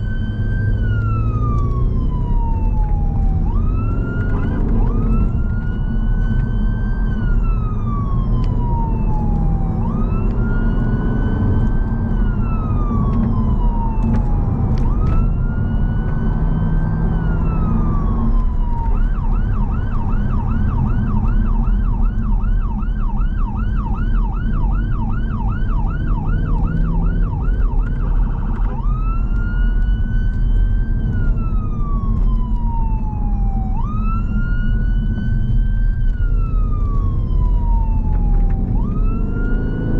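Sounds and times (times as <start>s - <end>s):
road and engine noise: 0.0s - 39.9s
siren wailing and yelping: 0.0s - 39.9s.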